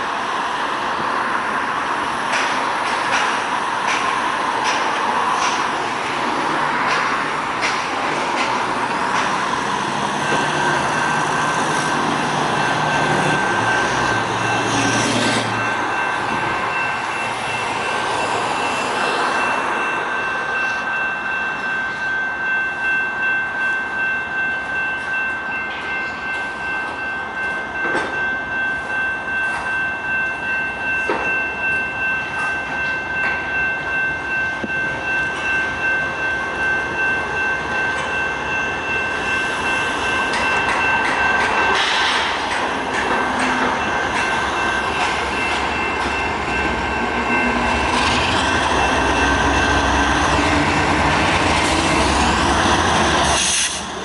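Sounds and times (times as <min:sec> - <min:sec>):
diesel locomotive engines: 0:00.0 - 0:54.0
train wheels over rail joints: 0:01.0 - 0:54.0.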